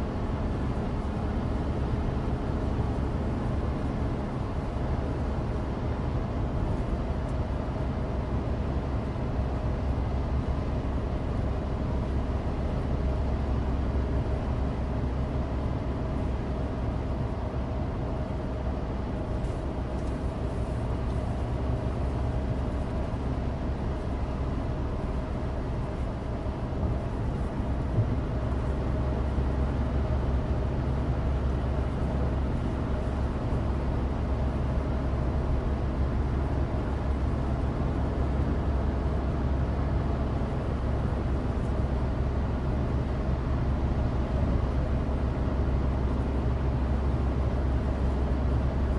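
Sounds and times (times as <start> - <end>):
car engine drone in cabin: 0.0 - 48.9
tyres rumbling on asphalt: 0.0 - 48.9.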